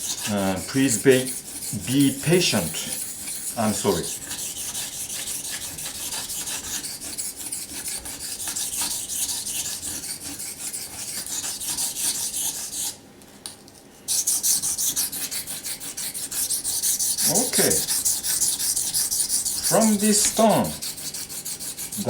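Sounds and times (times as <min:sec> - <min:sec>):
knife sharpening on whetstone: 0:00.0 - 0:13.0, 0:14.1 - 0:22.0.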